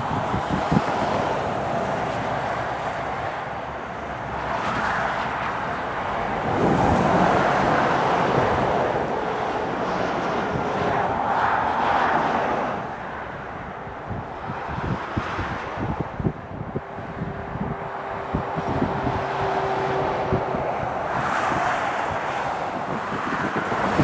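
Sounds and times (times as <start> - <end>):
motorway traffic passing: 0.0 - 24.0.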